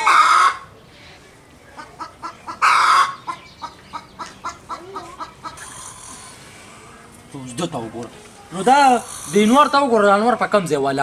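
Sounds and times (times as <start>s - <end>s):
farmyard animal calls: 0.0s - 10.8s.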